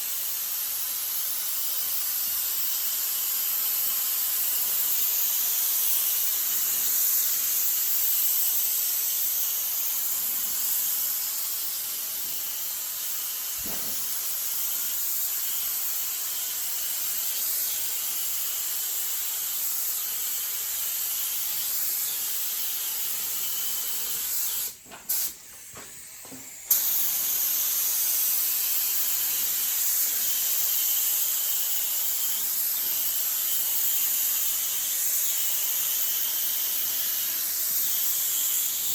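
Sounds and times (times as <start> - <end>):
spray gun hissing: 0.0 - 38.9.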